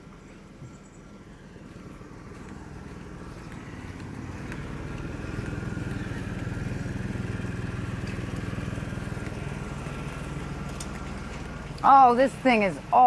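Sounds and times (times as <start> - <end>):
engine running with fast pulse: 0.0 - 13.0.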